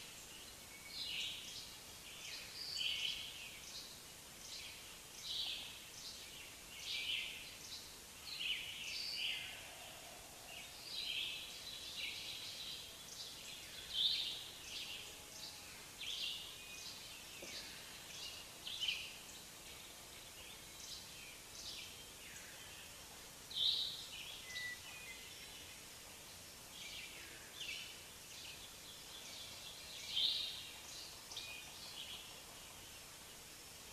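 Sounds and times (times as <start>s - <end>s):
low steady background noise: 0.0s - 33.9s
small birds chirping: 0.0s - 33.9s.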